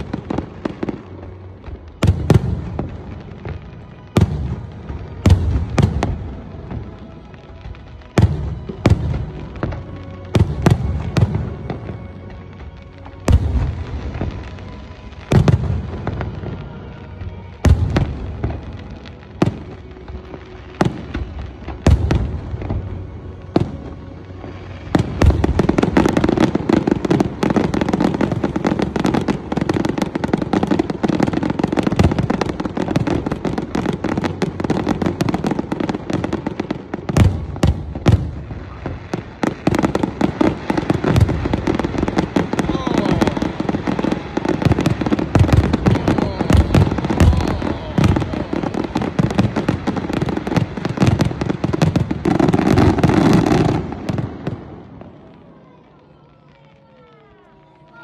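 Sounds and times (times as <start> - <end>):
crackling fireworks barrage: 0.0 - 58.0.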